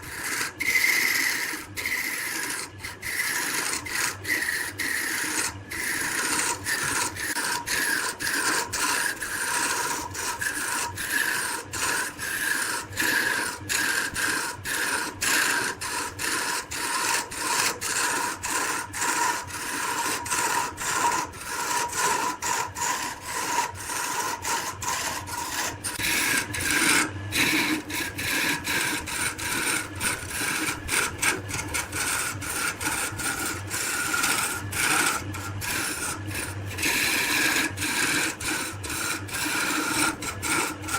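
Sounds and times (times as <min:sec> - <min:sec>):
lathe tool scraping wood: 0:00.0 - 0:40.9.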